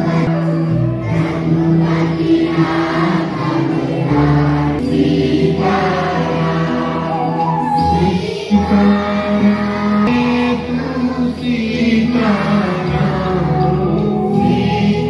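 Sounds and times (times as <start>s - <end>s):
group chanting with music: 0.0s - 15.0s.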